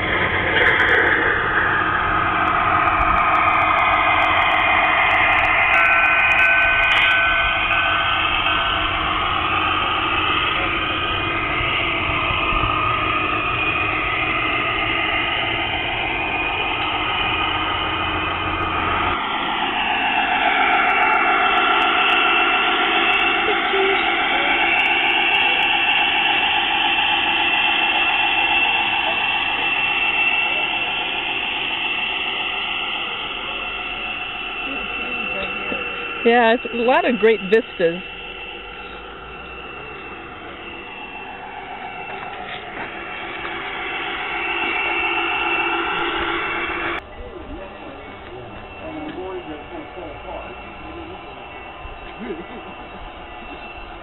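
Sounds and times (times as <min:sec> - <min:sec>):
wheels rumbling on rails: 0:00.0 - 0:54.0
whine of electric motors and gears: 0:00.0 - 0:54.0.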